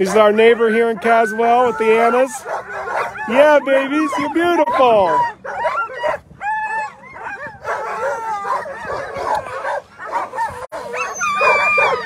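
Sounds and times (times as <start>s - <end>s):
sled dogs barking: 0.0s - 12.0s.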